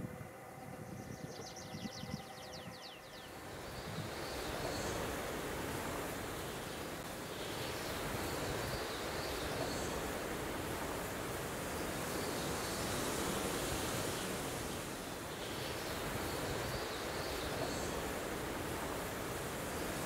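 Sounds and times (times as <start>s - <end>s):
wind rushing over microphone: 0.0s - 16.8s.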